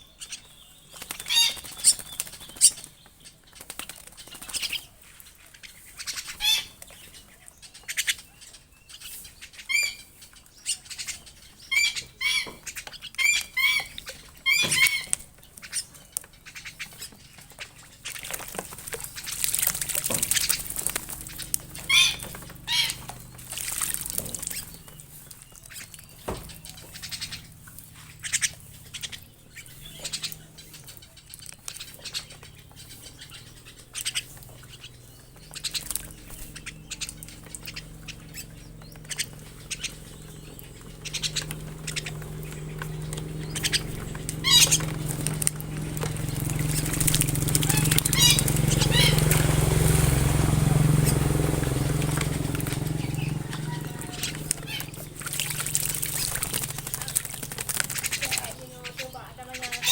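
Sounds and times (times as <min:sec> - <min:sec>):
small bird chirping: 0:00.0 - 0:59.9.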